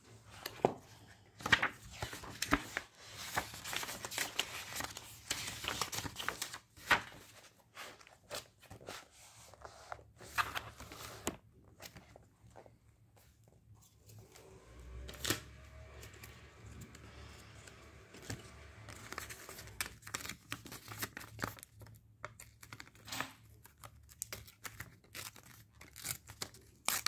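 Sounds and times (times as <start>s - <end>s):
paper pages rustling: 0.2s - 27.0s.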